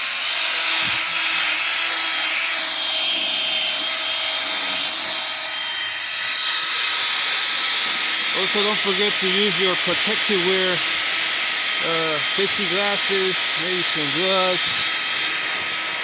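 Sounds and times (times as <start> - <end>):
electric drill motor whine: 0.0 - 16.0.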